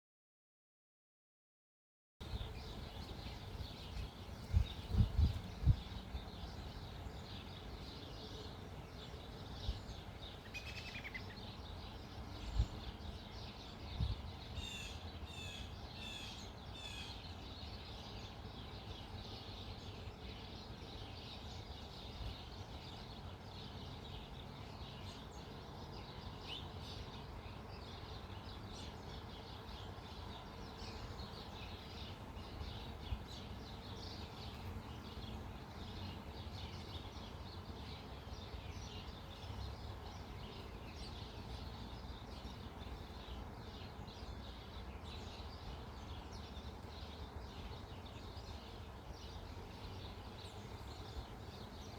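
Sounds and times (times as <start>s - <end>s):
small birds chirping: 2.2s - 51.9s.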